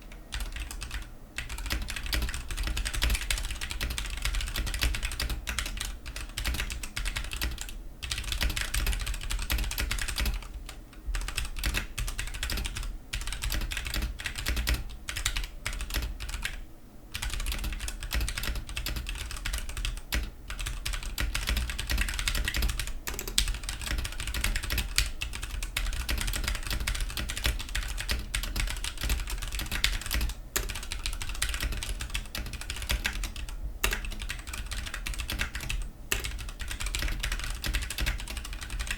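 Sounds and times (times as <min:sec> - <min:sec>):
mechanical keyboard typing: 0:00.1 - 0:38.9.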